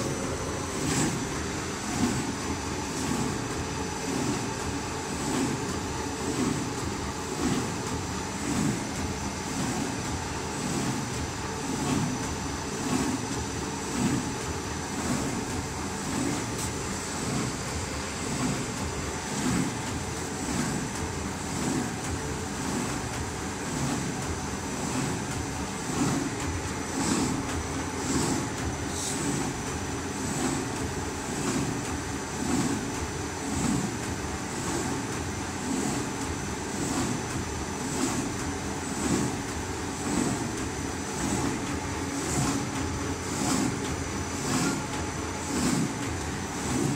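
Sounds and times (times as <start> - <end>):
paper cutting machine running: 0.0 - 46.9.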